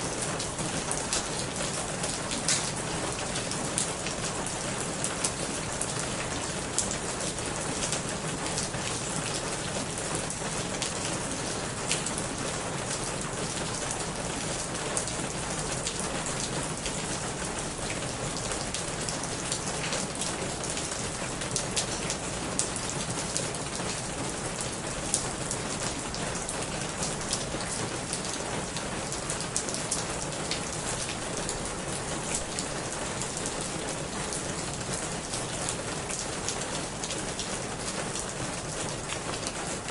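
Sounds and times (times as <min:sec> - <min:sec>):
heavy rain on corrugated roof: 0:00.0 - 0:39.9.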